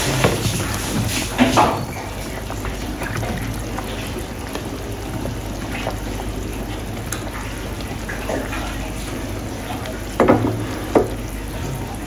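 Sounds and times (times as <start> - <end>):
pot of broth bubbling: 0.0 - 12.0.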